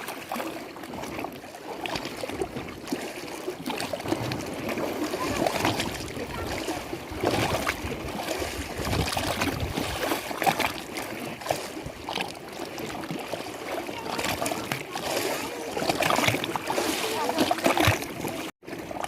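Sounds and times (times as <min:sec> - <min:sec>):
waves lapping against shore: 0:00.0 - 0:19.0.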